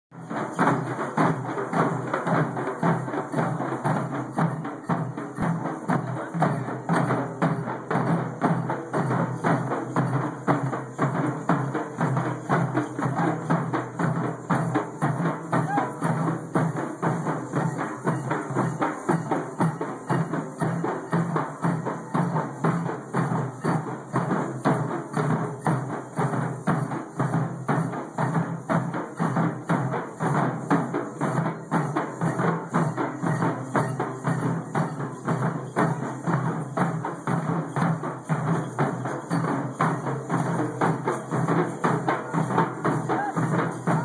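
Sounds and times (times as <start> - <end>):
group beating barrel drums: 0.1 - 44.0.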